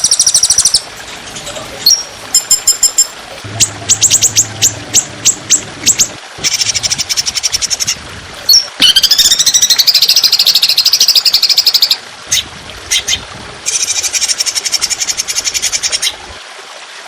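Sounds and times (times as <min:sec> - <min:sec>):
songbird trilling: 0:01.4 - 0:16.1.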